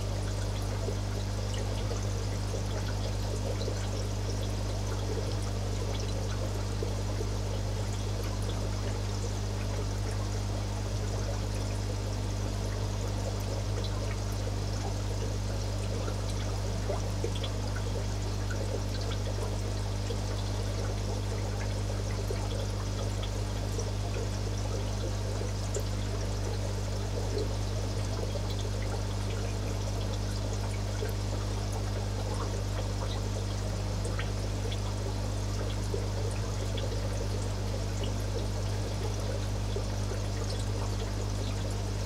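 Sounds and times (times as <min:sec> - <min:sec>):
steady low hum: 0:00.0 - 0:42.0
water trickling and bubbling: 0:00.0 - 0:42.0.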